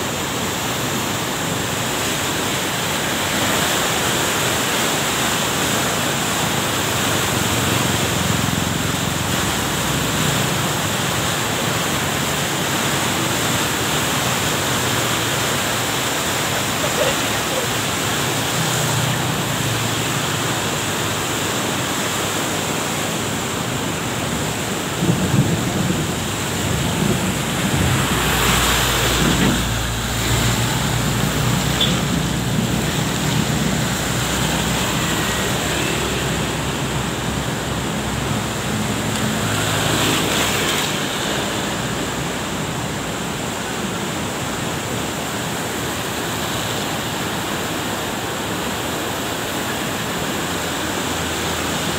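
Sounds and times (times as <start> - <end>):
river rushing: 0.0 - 51.9
tyre hiss on wet road: 0.0 - 51.9
motorbike and truck engines: 0.1 - 51.9.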